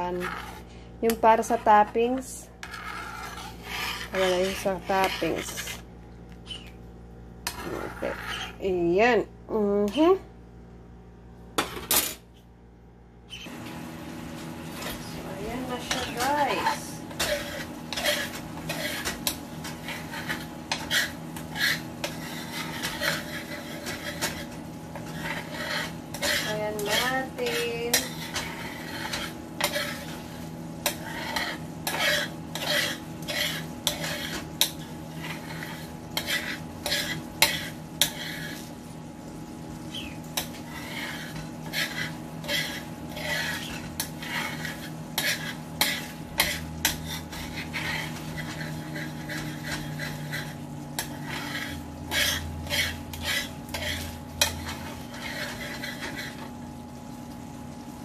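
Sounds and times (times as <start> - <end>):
spoon scraping a frying pan: 0.0 - 6.8, 7.4 - 8.7, 14.7 - 38.8, 39.9 - 56.6
milk sizzling and bubbling: 0.0 - 8.6, 13.3 - 58.0.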